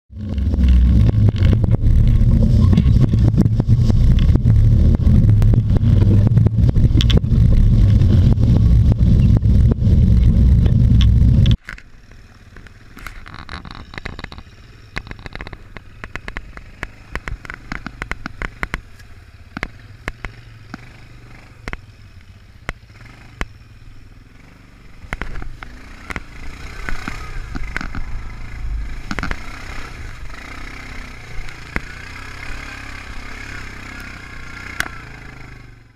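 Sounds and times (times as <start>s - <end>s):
knocks and clatters of quad bike: 0.1s - 35.9s
quad bike engine rumble: 0.1s - 35.9s.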